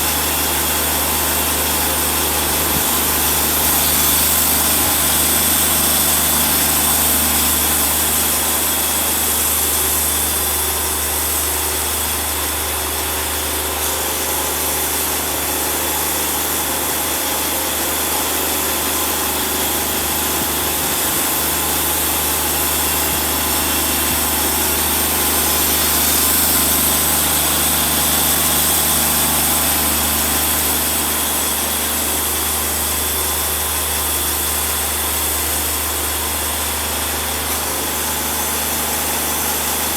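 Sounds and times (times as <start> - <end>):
band blade sawing log: 0.0 - 39.9
band sawmill engine running: 0.0 - 39.9.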